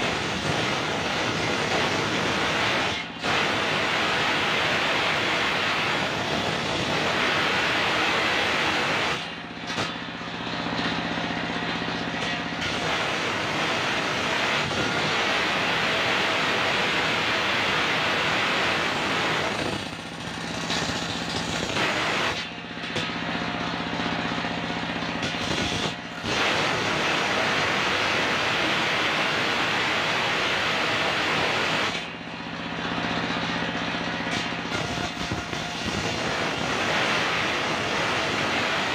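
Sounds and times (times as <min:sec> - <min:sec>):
stationary engine firing: 0:00.0 - 0:32.2.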